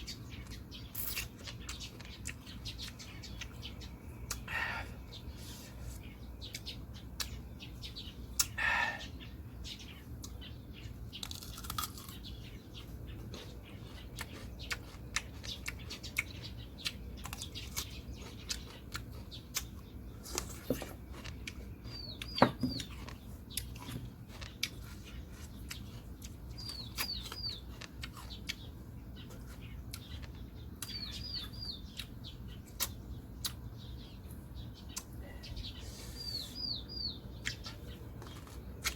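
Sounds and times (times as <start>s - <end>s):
person chewing crisp fruit: 0.0s - 8.7s, 9.9s - 38.9s
bird high chirp: 0.0s - 38.9s.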